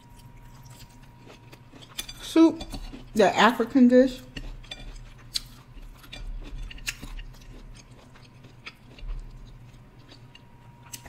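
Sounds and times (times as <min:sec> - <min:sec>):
chewing fried food: 0:00.0 - 0:11.0.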